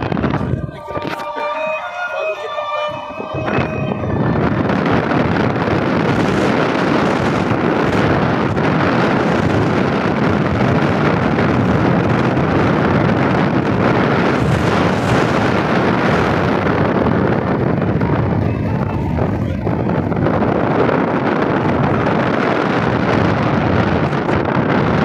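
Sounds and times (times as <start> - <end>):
car road noise: 0.0 - 25.0
wind rushing over microphone: 0.0 - 25.0.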